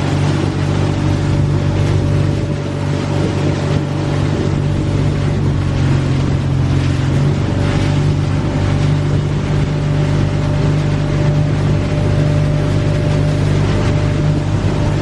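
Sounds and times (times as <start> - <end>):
motorboat engine running: 0.0 - 15.0
water noise: 0.0 - 15.0
wind noise: 0.0 - 15.0.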